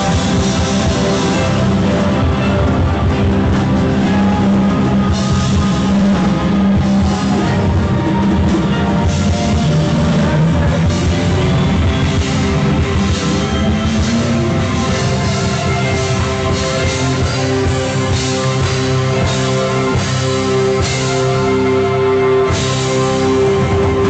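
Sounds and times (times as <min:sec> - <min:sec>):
live instrumental rock music: 0:00.0 - 0:24.0.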